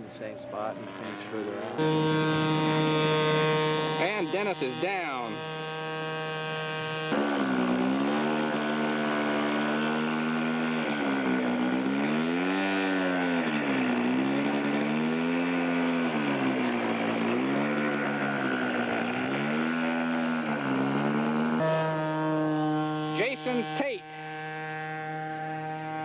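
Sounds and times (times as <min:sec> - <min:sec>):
model airplane engine: 0:00.0 - 0:26.0.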